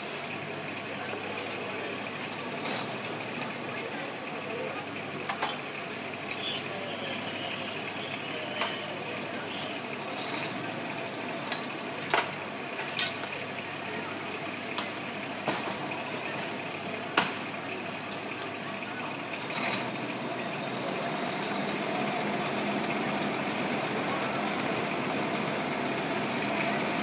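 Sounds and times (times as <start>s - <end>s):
diesel engines running: 0.0s - 27.0s.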